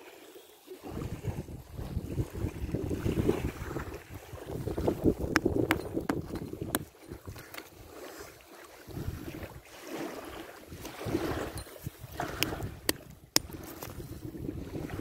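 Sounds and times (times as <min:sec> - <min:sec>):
wind buffeting microphone: 0:00.8 - 0:08.0, 0:08.9 - 0:15.0.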